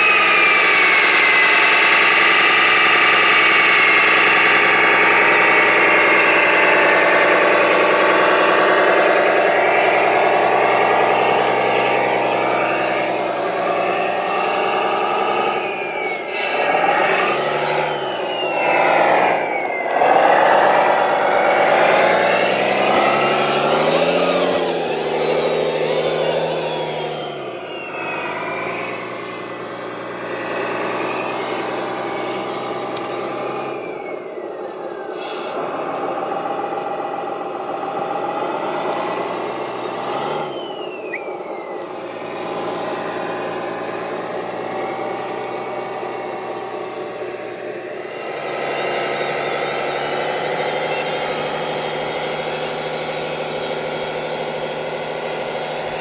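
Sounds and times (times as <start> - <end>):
high whine: 0.0 - 56.0
model vehicle engines revving: 0.0 - 56.0.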